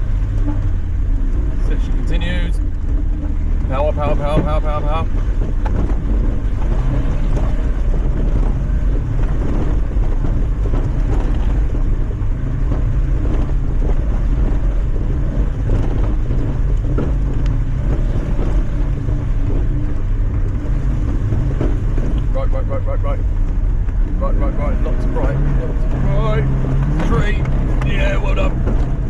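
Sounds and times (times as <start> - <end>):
car engine droning: 0.0 - 29.0
knocks and clatter: 0.0 - 29.0
wind buffeting microphone: 0.0 - 29.0.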